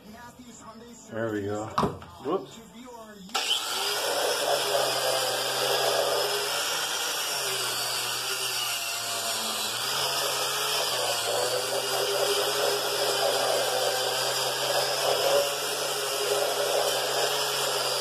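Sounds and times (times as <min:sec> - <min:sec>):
drill motor whirring: 0:03.3 - 0:18.0.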